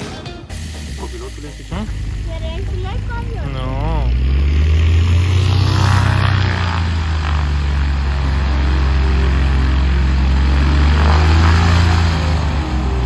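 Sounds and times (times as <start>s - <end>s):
propeller plane engine droning: 0.5s - 13.0s.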